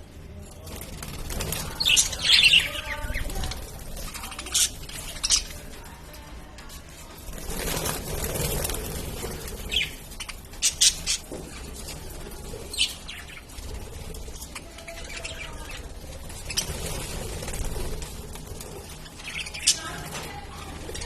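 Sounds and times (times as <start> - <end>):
lovebirds chirping: 1.3 - 6.2, 7.3 - 21.0.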